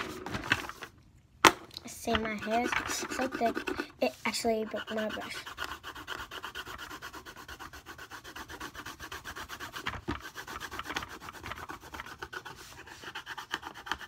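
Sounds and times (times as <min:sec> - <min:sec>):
pencil scratching on paper: 0:02.1 - 0:14.0.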